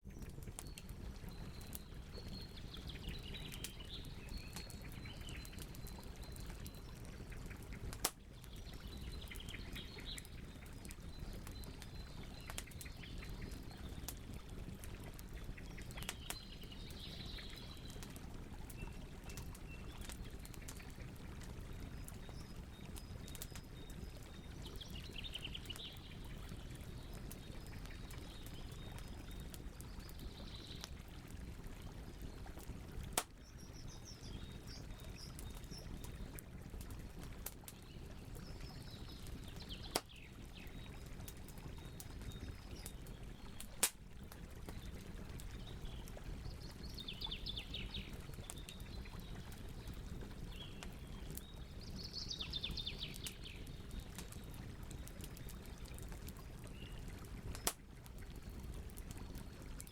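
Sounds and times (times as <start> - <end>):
campfire crackling: 0.1 - 59.9.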